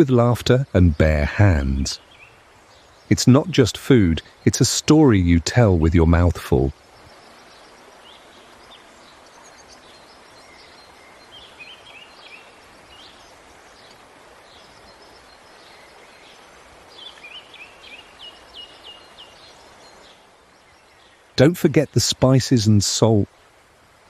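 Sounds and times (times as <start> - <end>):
birds chirping: 0.0 - 24.0
outdoor background hiss: 0.0 - 24.0.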